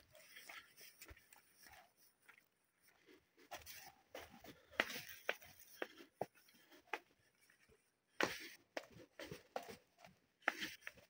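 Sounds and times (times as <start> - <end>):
scuffing footsteps: 0.1 - 11.0.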